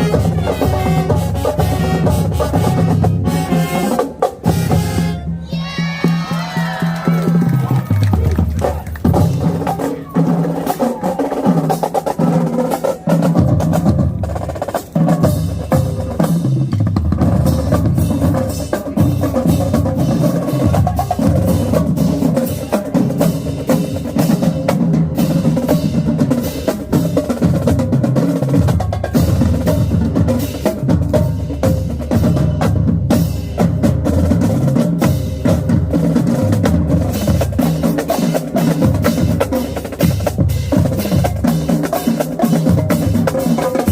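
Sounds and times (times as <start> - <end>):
bass drums: 0.0 - 10.8, 13.2 - 43.9
snare drum strokes and rolls: 0.0 - 43.9.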